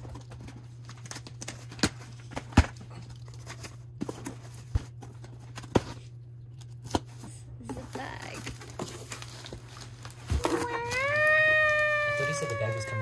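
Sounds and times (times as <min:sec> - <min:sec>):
steady low hum: 0:00.0 - 0:10.6
hands handling cardboard box: 0:00.0 - 0:13.0.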